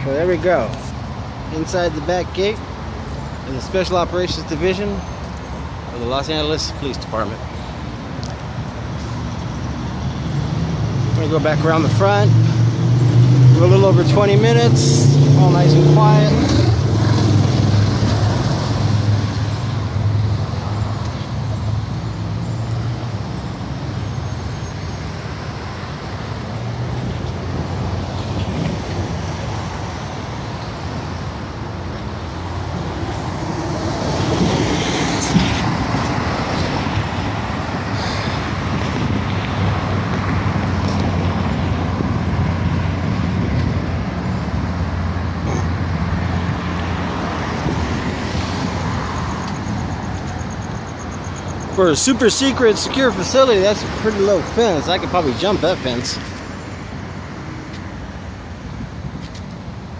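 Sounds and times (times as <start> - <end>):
road traffic: 0.0 - 59.9
loud vehicle passing: 9.0 - 59.2.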